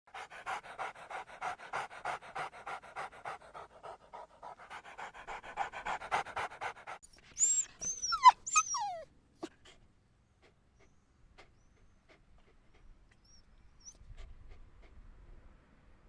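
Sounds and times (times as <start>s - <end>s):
animal panting rapidly: 0.1s - 9.0s, 10.4s - 15.2s.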